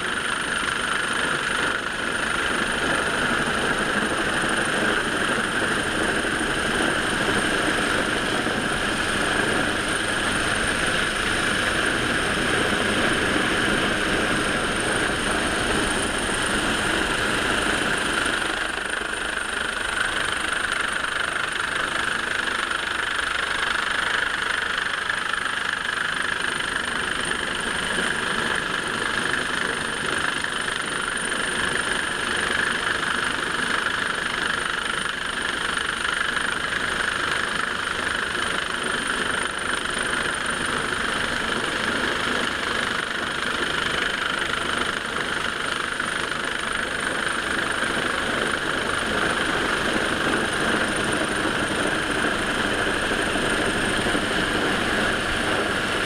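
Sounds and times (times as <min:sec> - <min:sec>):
helicopter hovering: 0:00.0 - 0:56.0
high turbine whine: 0:00.0 - 0:56.0.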